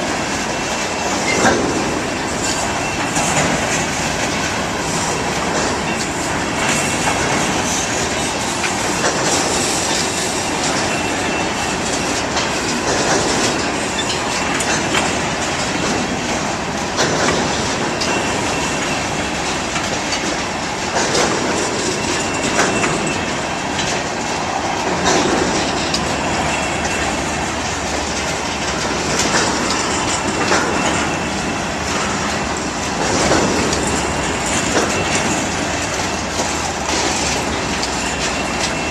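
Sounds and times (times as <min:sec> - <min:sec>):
train rumble: 0:00.0 - 0:38.9
train wheels clacking on rails: 0:00.0 - 0:38.9.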